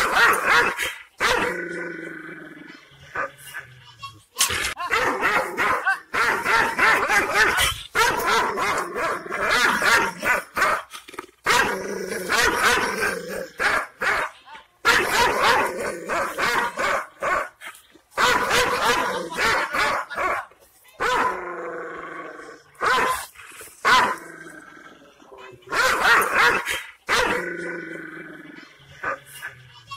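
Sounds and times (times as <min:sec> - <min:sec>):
dog barking and growling: 0:00.0 - 0:03.8, 0:04.4 - 0:29.8.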